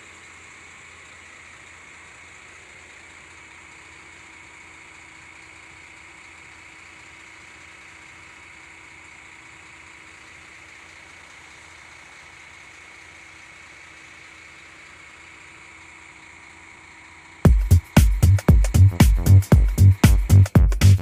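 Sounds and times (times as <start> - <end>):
diesel engines idling: 0.0 - 21.0.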